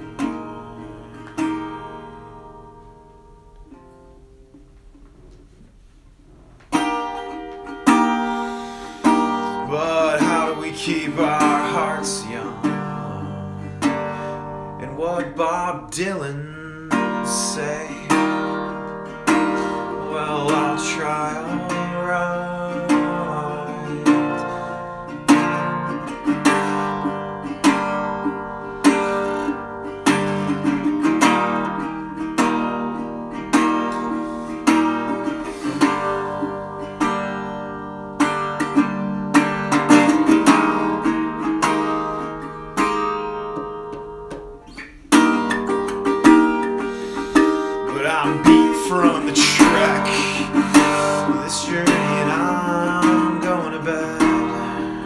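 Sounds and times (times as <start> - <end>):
acoustic guitar playing: 0.0 - 55.0.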